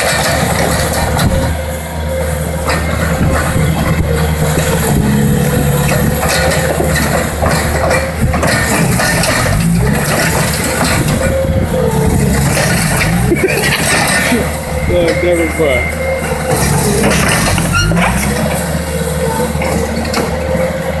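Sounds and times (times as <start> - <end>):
diesel engine working under load: 0.0 - 21.0
knocks and clanks from tracks: 0.0 - 21.0.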